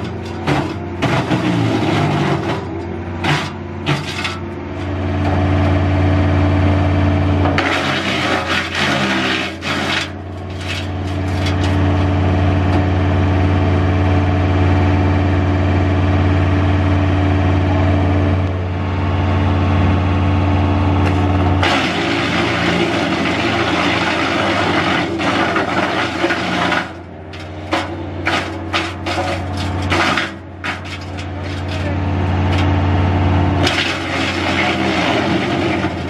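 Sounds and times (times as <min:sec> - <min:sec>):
wood chipper chipping branch: 0:00.0 - 0:13.8, 0:20.4 - 0:36.0
diesel engine running: 0:00.0 - 0:36.0.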